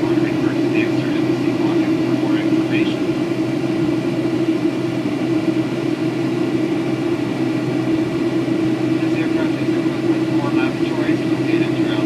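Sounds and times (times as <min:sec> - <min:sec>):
airplane cabin engine drone: 0:00.0 - 0:12.0.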